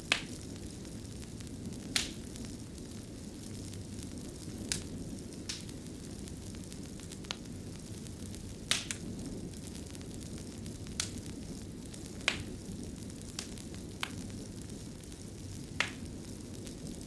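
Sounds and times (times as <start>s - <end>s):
fire crackling pops: 0.0s - 17.0s
fire rumbling: 0.0s - 17.0s.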